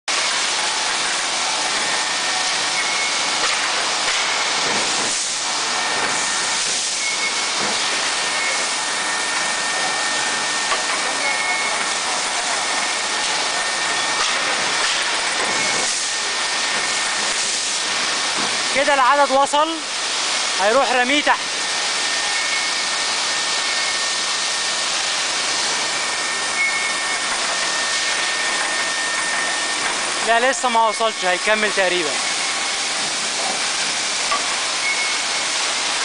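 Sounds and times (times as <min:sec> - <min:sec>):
rolling mill machinery hiss: 0:00.1 - 0:36.0.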